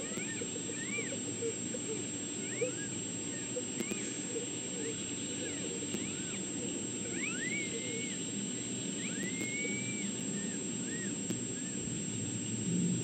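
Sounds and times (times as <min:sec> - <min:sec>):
high animal calls: 0:00.0 - 0:11.8
low outdoor background noise: 0:00.0 - 0:13.0.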